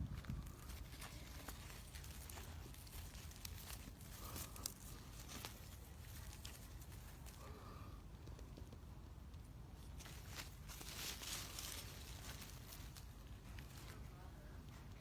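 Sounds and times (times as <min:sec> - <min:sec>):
low steady rumble: 0:00.0 - 0:15.0
soil and plants rustling: 0:00.0 - 0:15.0.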